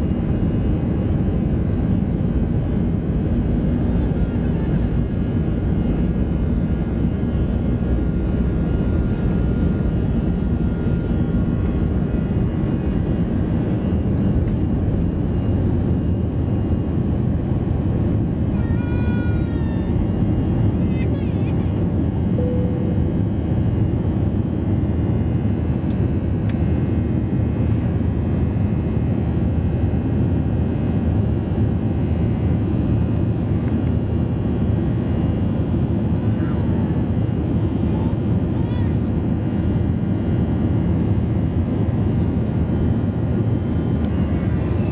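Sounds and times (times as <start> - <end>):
jet engines roaring: 0.0 - 44.9.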